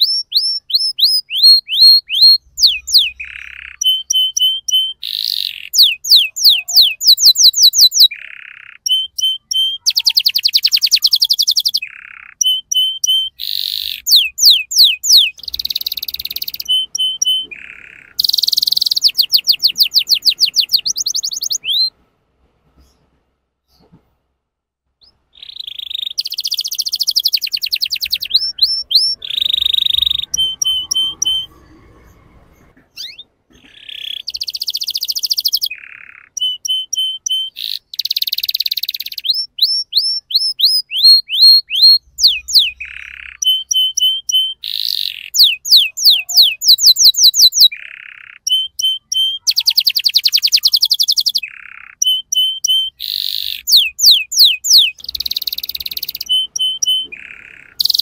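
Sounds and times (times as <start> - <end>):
canary singing trills: 0.0 - 22.0, 25.0 - 58.0.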